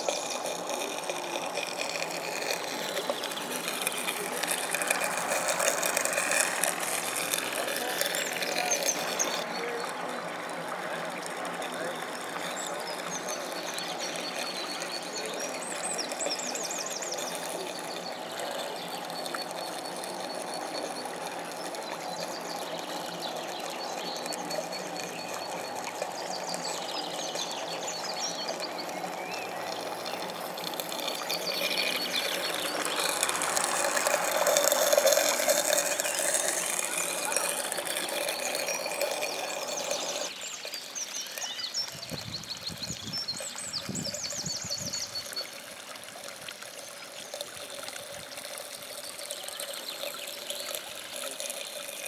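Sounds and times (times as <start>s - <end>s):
outdoor background noise: 0.0s - 52.0s
small steam engine and exhaust: 0.0s - 52.0s.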